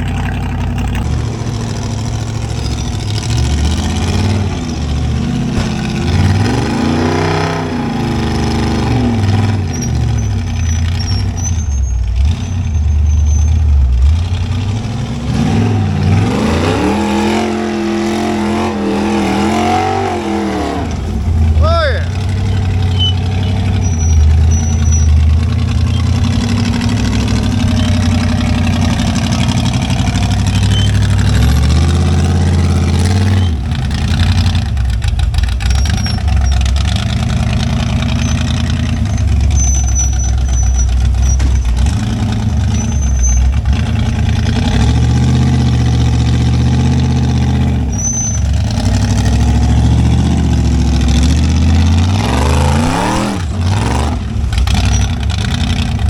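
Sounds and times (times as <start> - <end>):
engine revving at low revs: 1.0 - 11.4, 13.5 - 39.6, 40.9 - 56.0.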